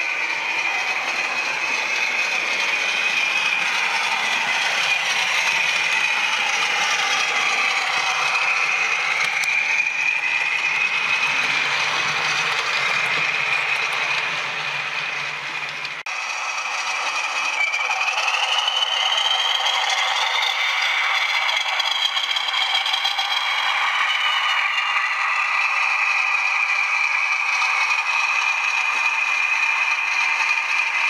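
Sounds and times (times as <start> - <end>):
model train mechanical whine: 0.0 - 31.0.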